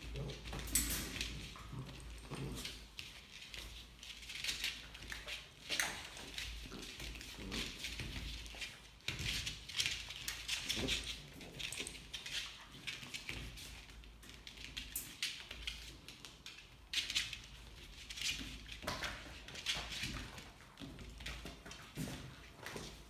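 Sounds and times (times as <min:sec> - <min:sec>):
puppies scuffling and playing: 0:00.0 - 0:23.0.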